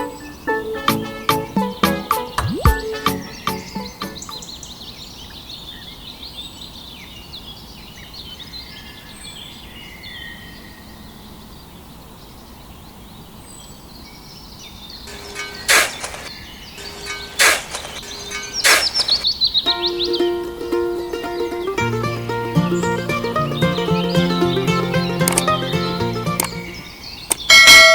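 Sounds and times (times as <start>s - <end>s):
small birds chirping: 1.6s - 27.6s.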